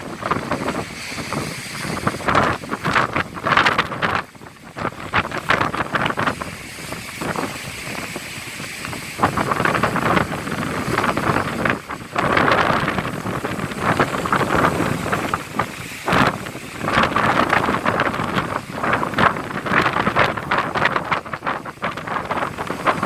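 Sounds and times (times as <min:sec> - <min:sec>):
heavy surf: 0:00.0 - 0:23.0
wind buffeting microphone: 0:00.0 - 0:23.0.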